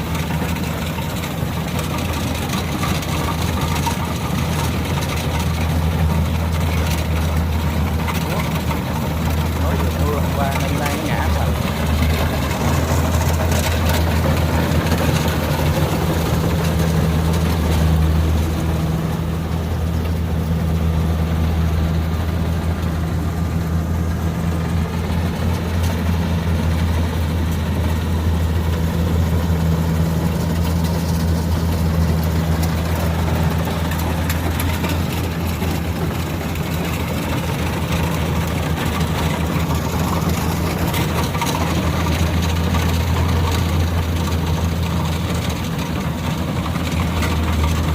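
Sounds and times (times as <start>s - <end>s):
diesel engine running steadily: 0.0s - 47.9s.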